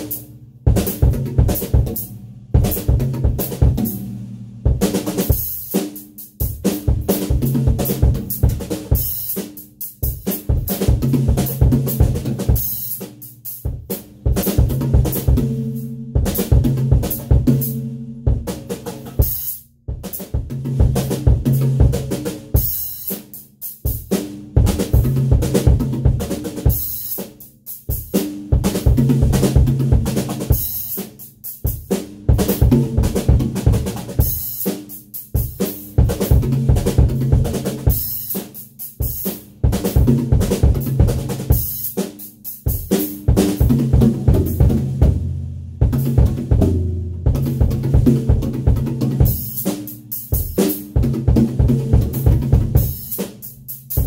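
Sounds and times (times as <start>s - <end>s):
acoustic drum kit playing: 0.0s - 54.0s.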